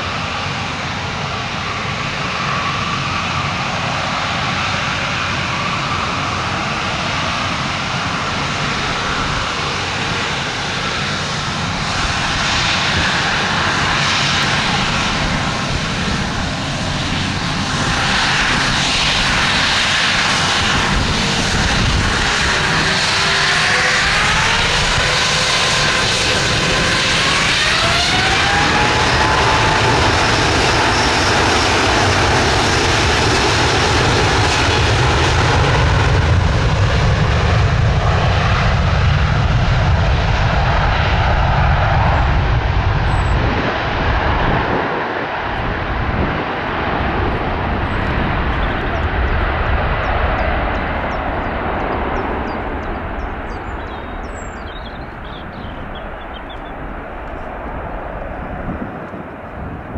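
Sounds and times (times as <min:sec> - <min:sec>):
jet engine deep rumble: 0:00.0 - 0:59.9
jet engines whine rising: 0:00.0 - 0:59.9.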